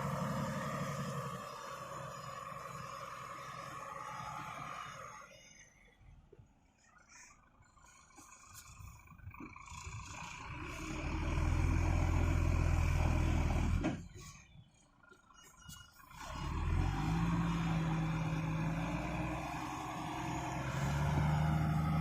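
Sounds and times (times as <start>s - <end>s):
diesel truck engine straining: 0.0s - 22.0s.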